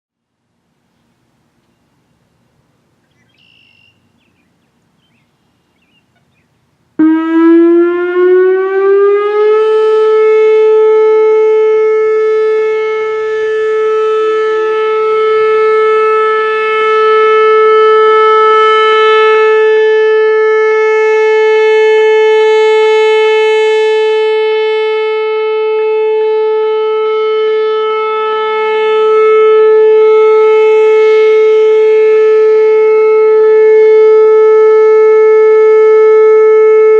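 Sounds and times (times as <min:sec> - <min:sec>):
warning siren winding up: 0:07.0 - 0:36.9.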